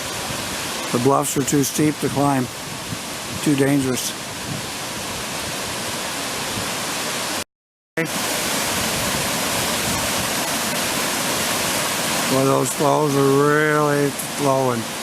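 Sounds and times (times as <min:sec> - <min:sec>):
waterfall rushing: 0:00.0 - 0:07.4, 0:08.0 - 0:15.0.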